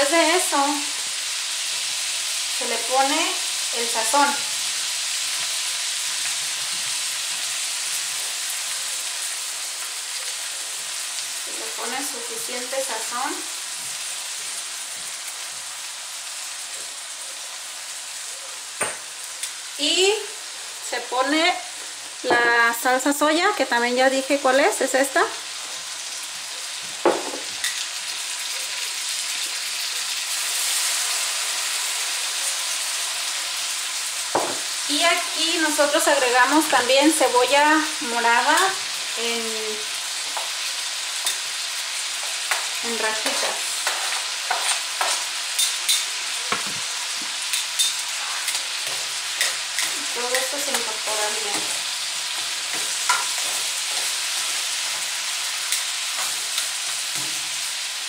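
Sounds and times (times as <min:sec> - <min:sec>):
crab legs sizzling in butter: 0:00.0 - 0:58.0.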